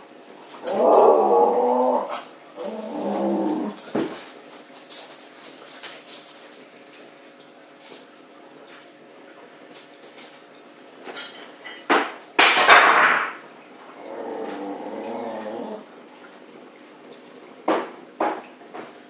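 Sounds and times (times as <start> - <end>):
aquarium bubbling and filter hum: 0.0 - 19.0.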